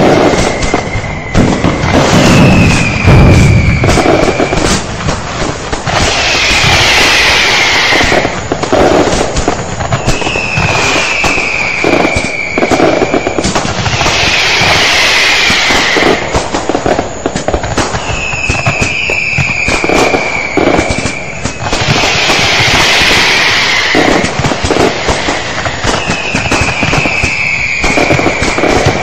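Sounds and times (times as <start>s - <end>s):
falling firework whistle: 0.0s - 29.0s
fireworks bangs and crackling: 0.0s - 29.0s.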